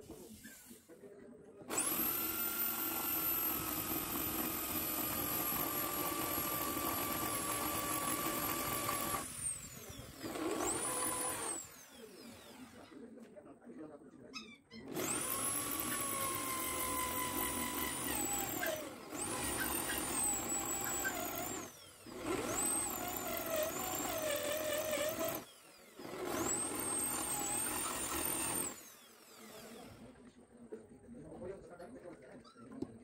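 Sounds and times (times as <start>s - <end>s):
power drill whining into steel: 1.7s - 13.1s, 14.8s - 30.1s.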